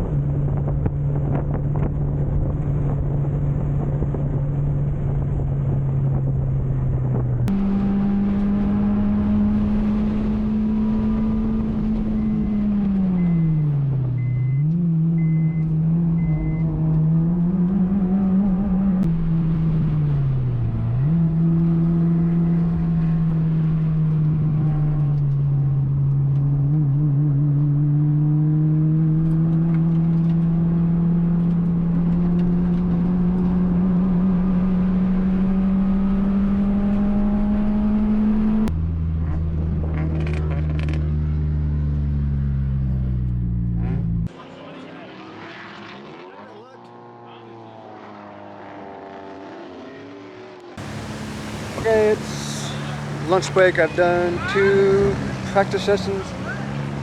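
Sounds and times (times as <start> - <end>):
deeper engine drone: 0.0 - 44.3, 46.8 - 57.0
car engine revving high: 7.1 - 57.0.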